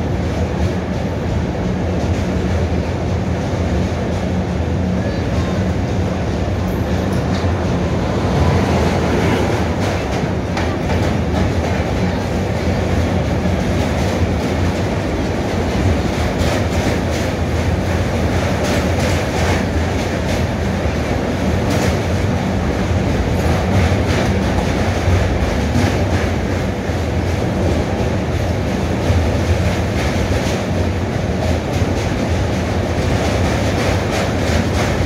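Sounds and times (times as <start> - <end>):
rumble of passing train coaches: 0.0 - 35.0.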